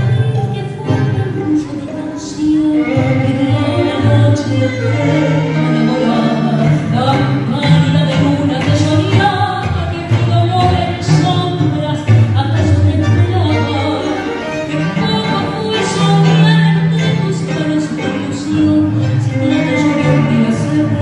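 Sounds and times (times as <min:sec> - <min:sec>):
tango ensemble playing: 0:00.0 - 0:21.0
woman singing into microphone: 0:00.0 - 0:21.0.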